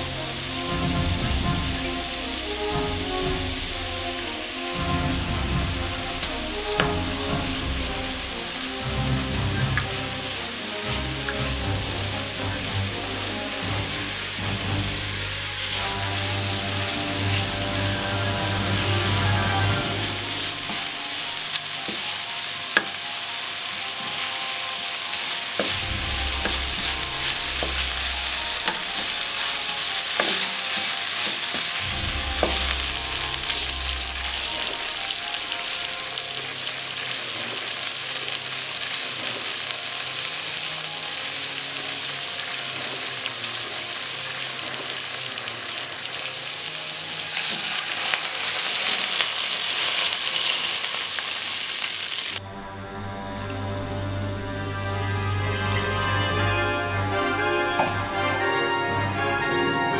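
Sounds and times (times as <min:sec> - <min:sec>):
paste sizzling in oil: 0:00.0 - 0:52.4, 0:53.4 - 0:58.2.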